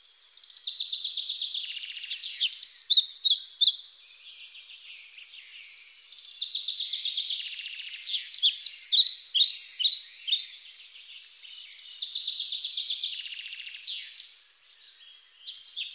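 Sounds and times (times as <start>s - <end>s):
small songbirds trilling and chirping: 0.0s - 15.9s.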